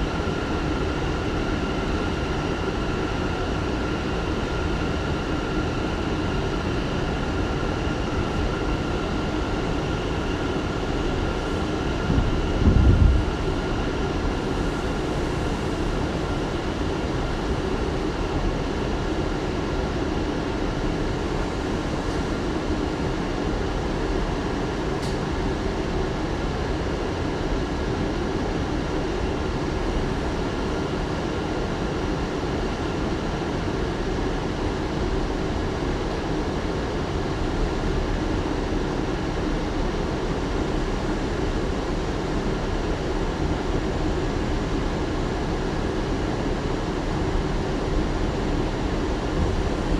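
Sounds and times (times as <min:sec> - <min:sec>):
subway train wheels rumbling: 0:00.0 - 0:49.9.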